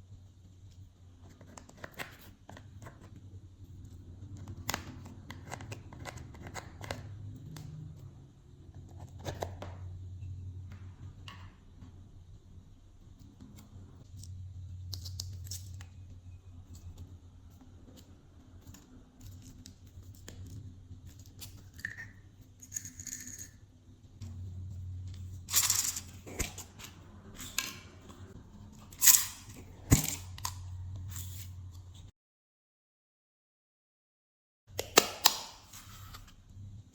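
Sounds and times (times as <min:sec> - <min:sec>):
low steady hum: 0:00.0 - 0:32.1.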